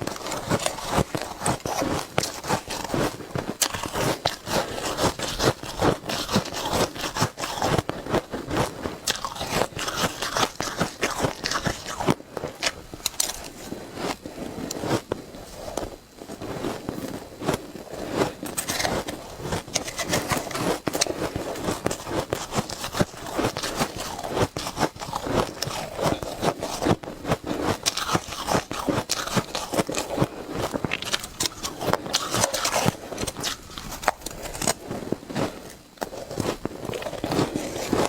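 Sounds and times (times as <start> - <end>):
shaved ice crunching: 0.0 - 15.0, 17.6 - 38.0.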